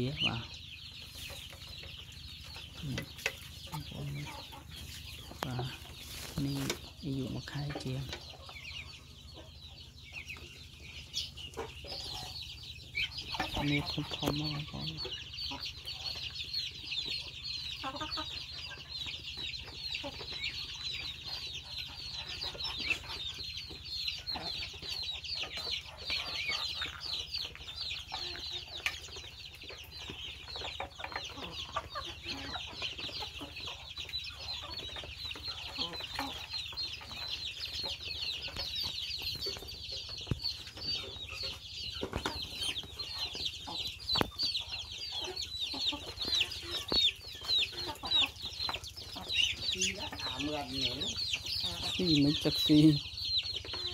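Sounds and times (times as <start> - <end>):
chicks peeping: 0.0 - 53.9
hens clucking: 0.0 - 53.9.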